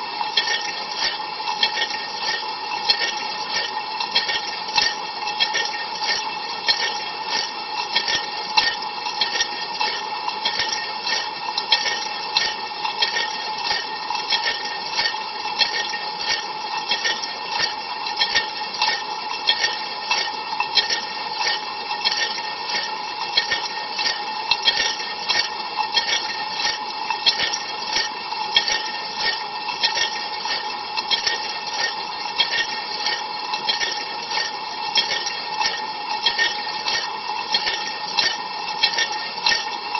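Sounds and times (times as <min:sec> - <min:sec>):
pump hum: 0:00.0 - 0:39.9.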